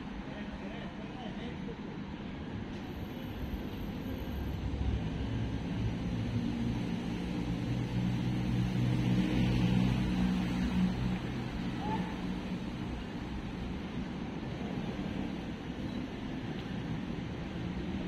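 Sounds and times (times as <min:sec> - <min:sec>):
vehicle engine hum: 0:02.7 - 0:18.0.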